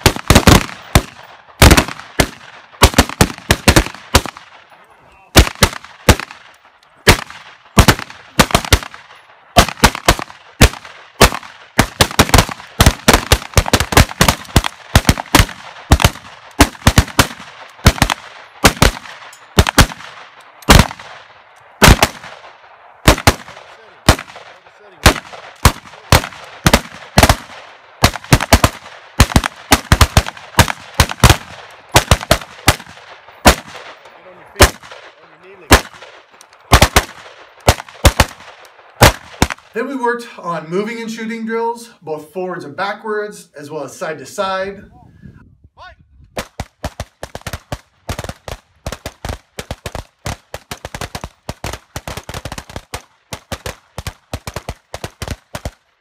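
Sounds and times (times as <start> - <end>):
rifles firing: 0.0 - 39.7, 46.4 - 56.0.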